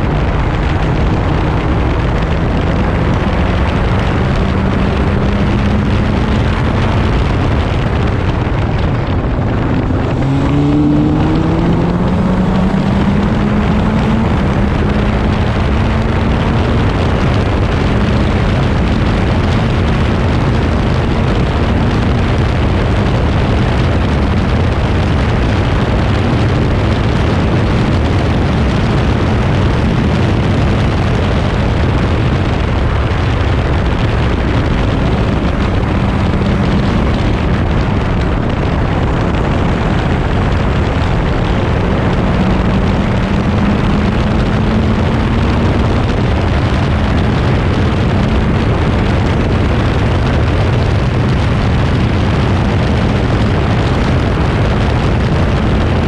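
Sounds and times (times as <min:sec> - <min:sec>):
racing car engine running hard: 0:00.0 - 0:56.0
wind buffeting microphone: 0:00.0 - 0:56.0.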